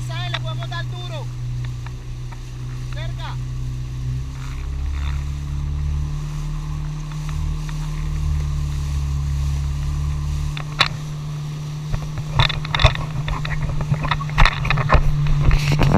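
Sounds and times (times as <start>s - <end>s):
jet ski engine droning: 0.0s - 15.9s.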